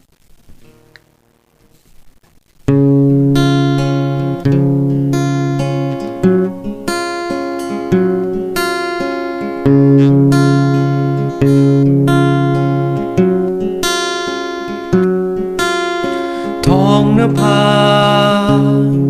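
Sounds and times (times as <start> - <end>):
acoustic guitar chords: 2.6 - 19.0.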